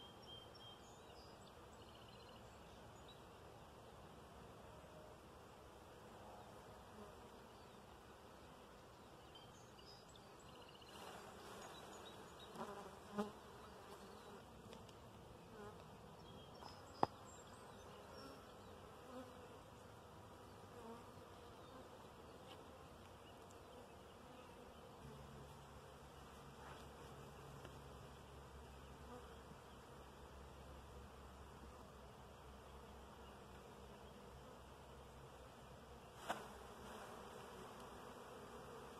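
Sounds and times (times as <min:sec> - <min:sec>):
bees buzzing faintly: 0:00.0 - 0:38.9.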